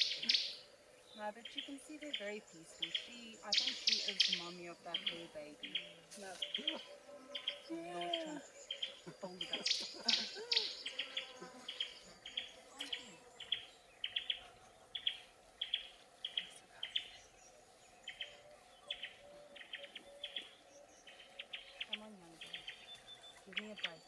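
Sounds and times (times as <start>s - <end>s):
faint wavering calls: 0.0s - 24.0s.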